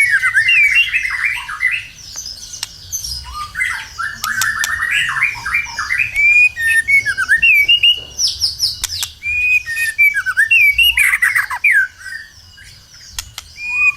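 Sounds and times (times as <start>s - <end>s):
songbird whistles and trills: 0.0s - 13.9s.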